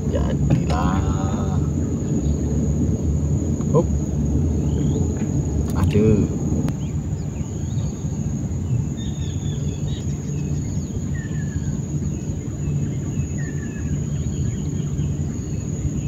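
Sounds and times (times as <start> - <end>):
birds chirping: 0.0 - 16.0
high-pitched insect drone: 0.0 - 16.0
low rumble: 0.0 - 16.0.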